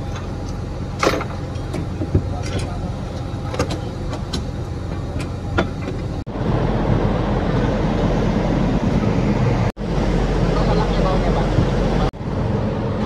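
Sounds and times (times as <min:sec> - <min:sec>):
low rumbling noise: 0:00.0 - 0:13.0.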